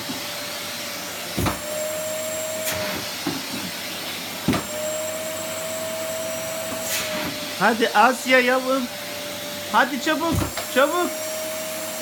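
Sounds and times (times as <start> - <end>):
vacuum cleaner running: 0.0 - 12.0
vacuum nozzle whistling: 0.1 - 12.0.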